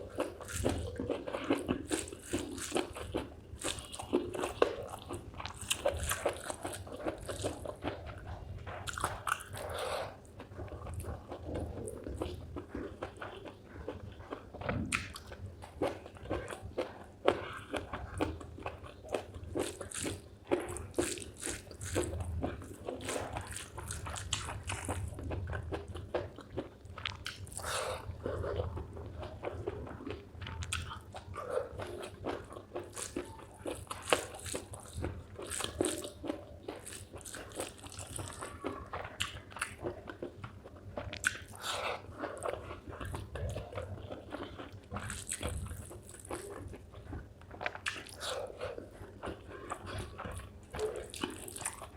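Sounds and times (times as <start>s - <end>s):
crunchy chewing and smacking: 0.0s - 51.9s.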